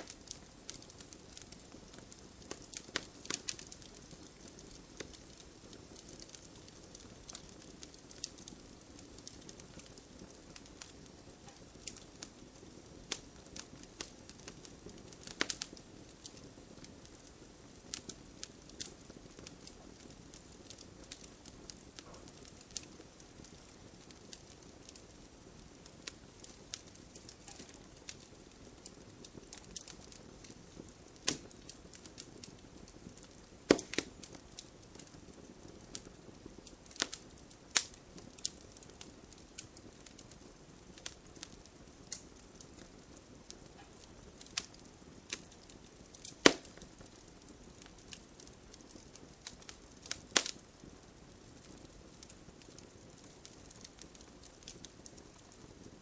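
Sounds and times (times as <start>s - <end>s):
gentle rain hiss: 0.0s - 56.0s
wood fire crackling and popping: 0.0s - 56.0s.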